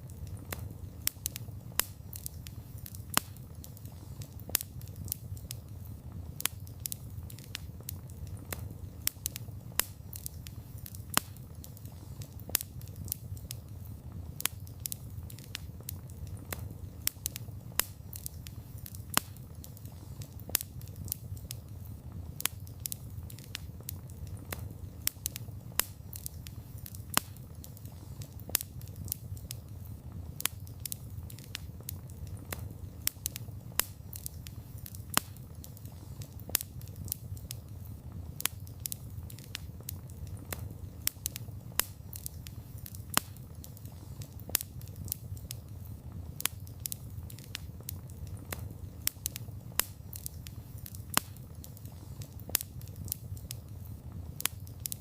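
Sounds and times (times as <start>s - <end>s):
campfire crackling and snapping: 0.0s - 55.0s
loud fire pops: 0.0s - 55.0s
low rumble of flames: 0.0s - 55.0s.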